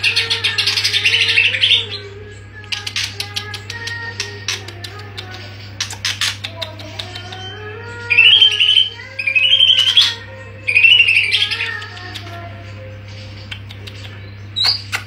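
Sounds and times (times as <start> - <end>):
bird warbling song: 0.0 - 15.0
steady low hum: 0.0 - 15.0.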